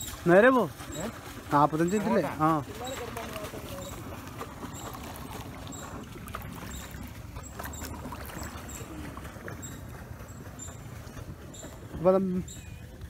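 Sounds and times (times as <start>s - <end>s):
paddle dipping in water: 0.0s - 13.0s
water sloshing along hull: 0.0s - 13.0s.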